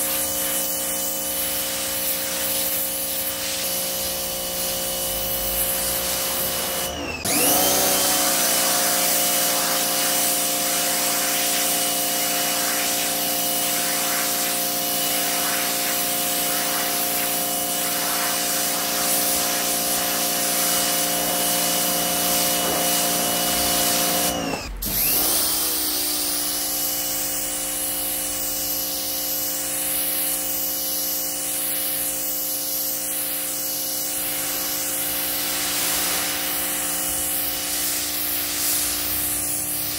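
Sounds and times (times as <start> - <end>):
pressure washer motor whine: 0.0 - 39.9
water jet hissing on concrete: 0.0 - 39.9.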